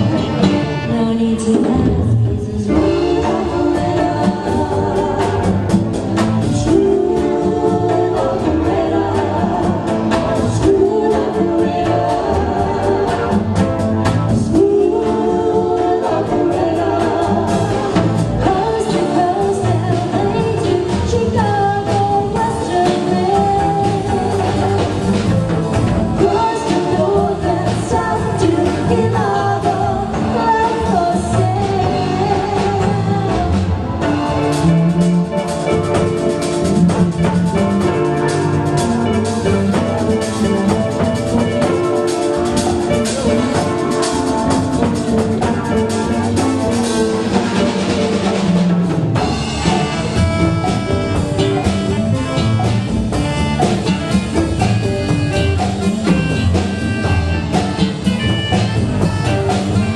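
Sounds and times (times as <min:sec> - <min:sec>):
live band playing pop: 0:00.0 - 0:59.9.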